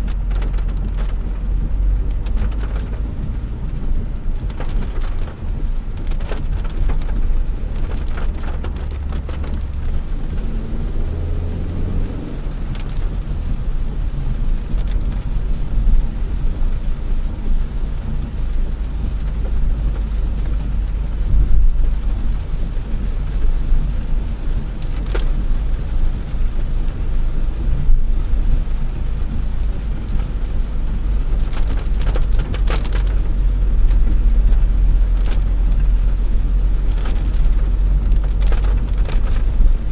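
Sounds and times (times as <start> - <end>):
car driving on wet road: 0.0 - 39.9
heavy rain on a car: 0.0 - 39.9
raindrops ticking: 0.0 - 39.9.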